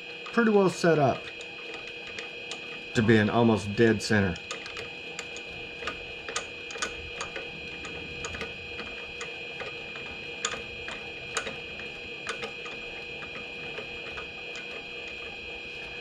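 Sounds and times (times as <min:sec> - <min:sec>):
mini lathe whining: 0:00.0 - 0:16.0.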